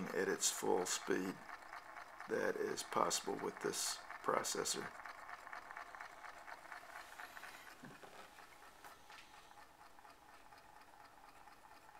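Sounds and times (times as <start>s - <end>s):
electric motor ticking buzz: 0.0s - 11.9s.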